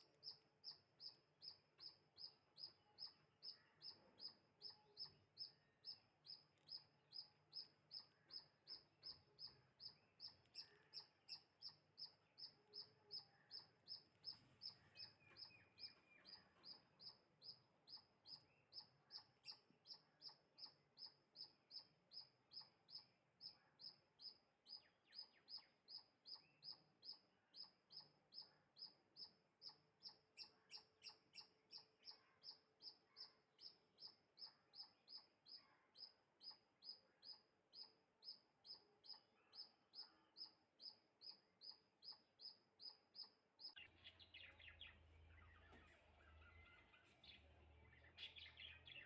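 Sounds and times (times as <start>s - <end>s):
faint high bird chirps: 0.0s - 49.0s.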